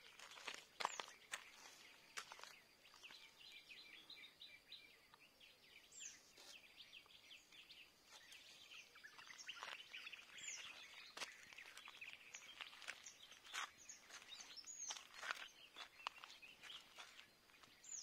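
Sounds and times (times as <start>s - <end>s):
faint birdsong chirps: 0.0s - 18.0s.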